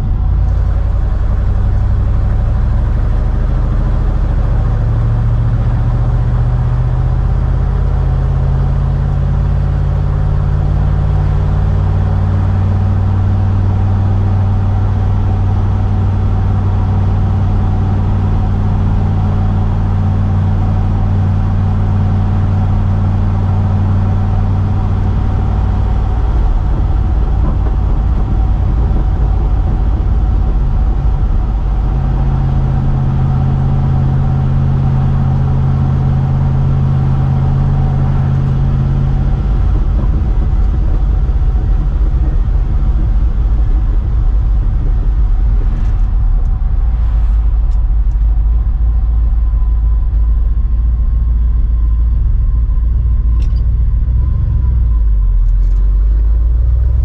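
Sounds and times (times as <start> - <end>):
pickup engine from inside cab: 0.0 - 57.0.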